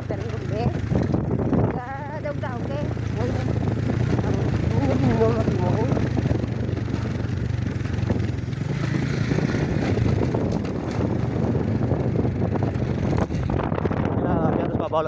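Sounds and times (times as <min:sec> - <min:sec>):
road noise: 0:00.0 - 0:15.0
vehicle engine droning: 0:00.0 - 0:15.0.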